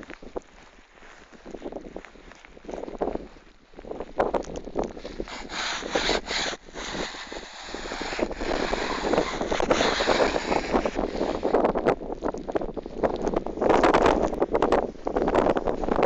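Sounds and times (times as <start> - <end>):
wind gusting on microphone: 1.3 - 16.0.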